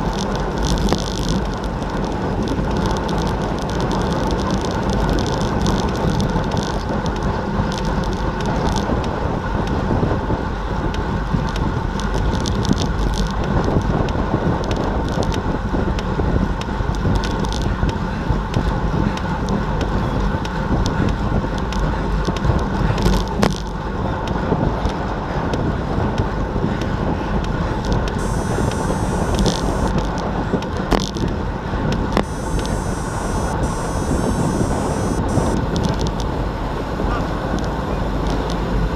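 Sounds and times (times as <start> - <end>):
bicycle tyres on road: 0.0 - 38.9
wind noise on microphone: 0.0 - 38.9.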